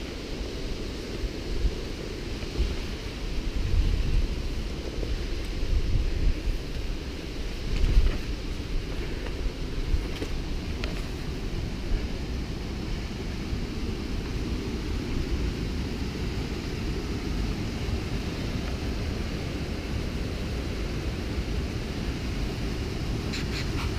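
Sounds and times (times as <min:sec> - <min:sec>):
creek water rushing: 0:00.0 - 0:23.9.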